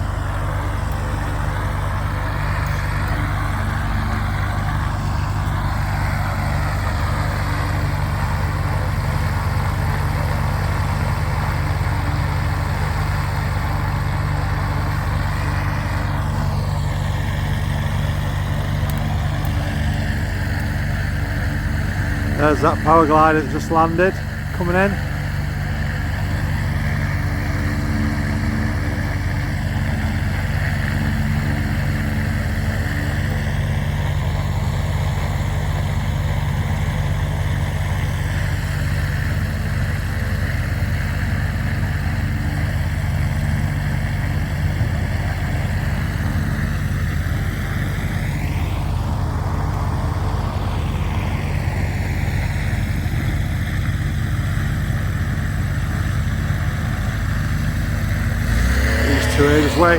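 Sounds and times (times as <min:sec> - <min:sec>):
light aircraft piston engine: 0:00.0 - 0:59.9.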